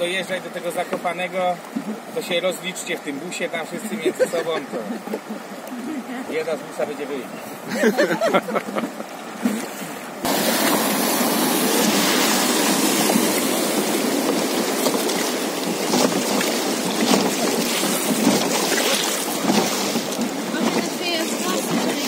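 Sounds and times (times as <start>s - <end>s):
river rapids rushing: 0.0s - 22.0s.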